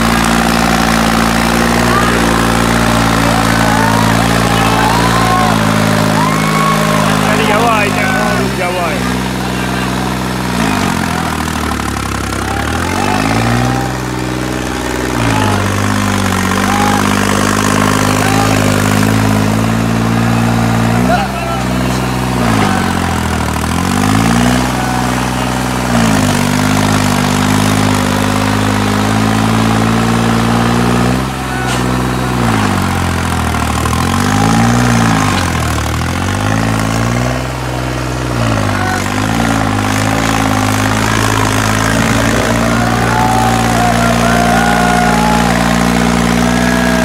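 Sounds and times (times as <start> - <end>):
tractor diesel engine lugging: 0.0 - 47.0.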